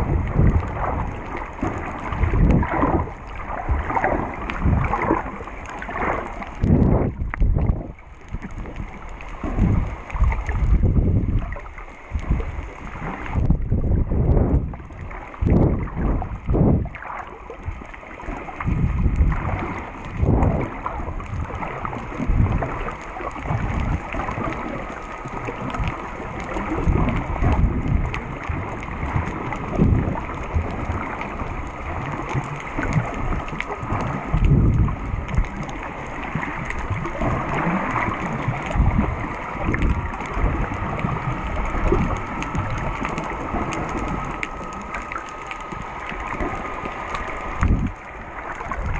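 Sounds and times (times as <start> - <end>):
muffled underwater rushing: 0.0 - 48.9.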